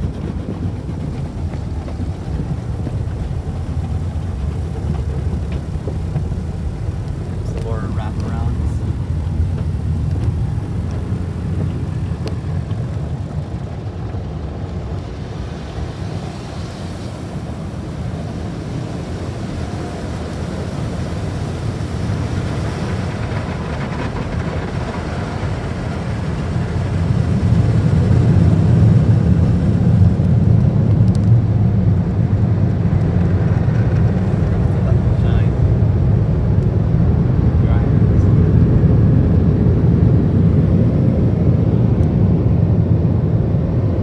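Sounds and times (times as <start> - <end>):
water spray on car: 0.0 - 35.3.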